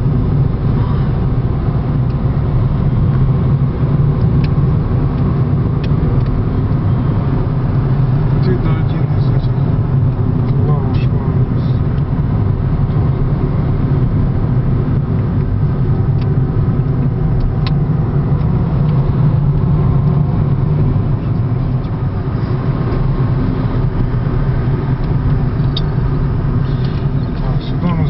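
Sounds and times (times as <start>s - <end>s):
volcano low drone: 0.0s - 28.0s.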